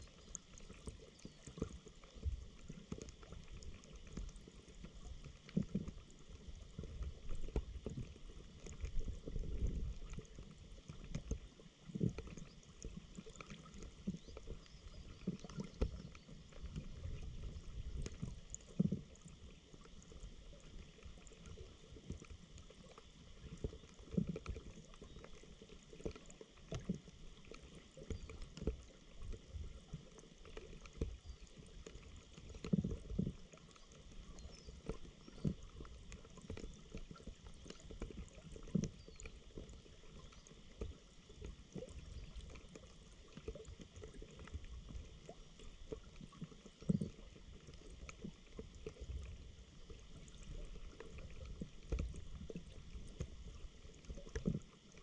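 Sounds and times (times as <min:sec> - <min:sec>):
muffled underwater water gurgling: 0:00.0 - 0:55.0.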